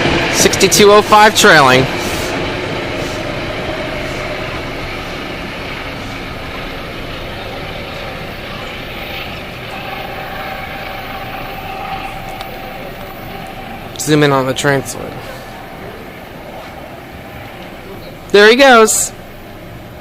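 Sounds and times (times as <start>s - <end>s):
diesel train rumbling past: 0.0s - 20.0s.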